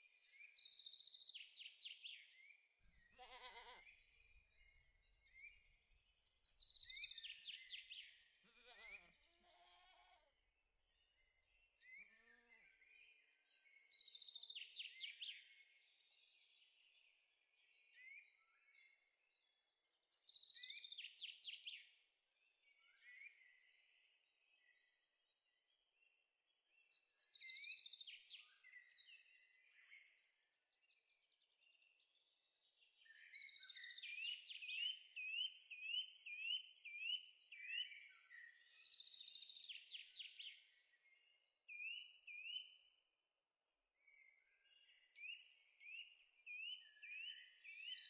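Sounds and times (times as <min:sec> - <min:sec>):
faint birdsong: 0:00.0 - 0:48.0.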